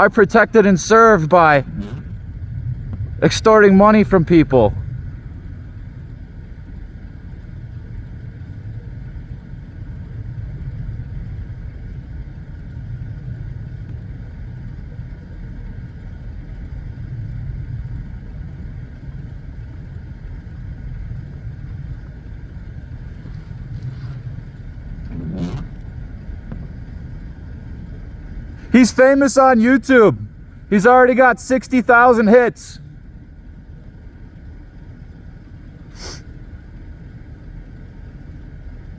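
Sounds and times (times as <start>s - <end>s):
vehicle engine idling: 0.0s - 38.9s.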